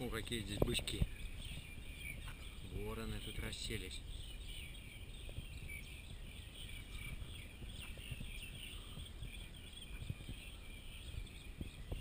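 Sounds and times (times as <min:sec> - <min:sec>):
insects chirping: 0:00.0 - 0:12.0
small birds chirping: 0:00.0 - 0:12.0.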